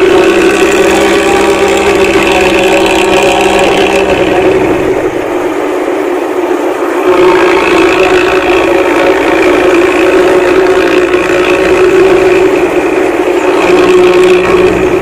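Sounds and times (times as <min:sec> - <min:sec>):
bus diesel engine running: 0:00.0 - 0:15.0
loud exhaust: 0:00.0 - 0:15.0.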